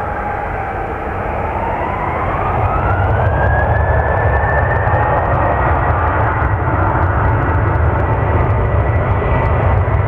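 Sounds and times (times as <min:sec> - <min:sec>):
jet engine fan whine: 0:00.0 - 0:10.0
low engine rumble: 0:00.0 - 0:10.0.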